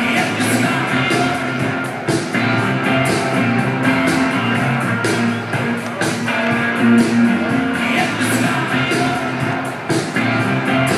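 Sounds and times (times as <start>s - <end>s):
rock music with strummed guitar: 0.0s - 10.9s.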